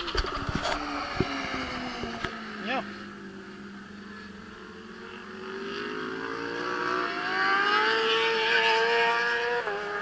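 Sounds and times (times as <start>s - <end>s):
vehicle engine accelerating: 0.0s - 10.0s.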